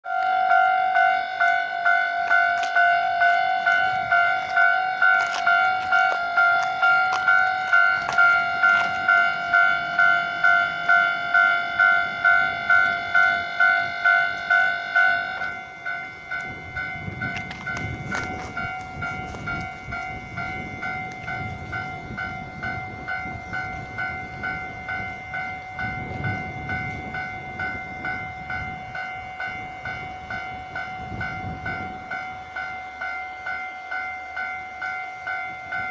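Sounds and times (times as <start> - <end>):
level-crossing alarm ringing: 0.0 - 35.9
train wheels rumbling: 0.1 - 35.9.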